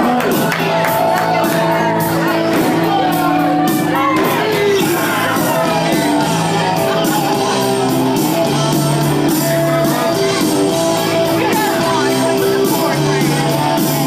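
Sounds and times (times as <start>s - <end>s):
rock music with guitar: 0.0s - 14.0s.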